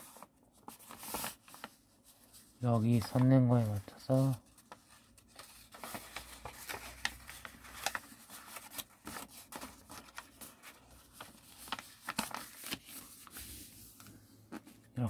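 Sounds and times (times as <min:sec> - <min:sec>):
paper rustling and crackling: 0:00.0 - 0:14.9.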